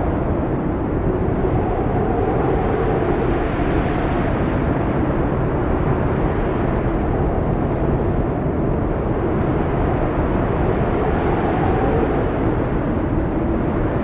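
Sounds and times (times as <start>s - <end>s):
strong wind howling: 0.0s - 14.0s.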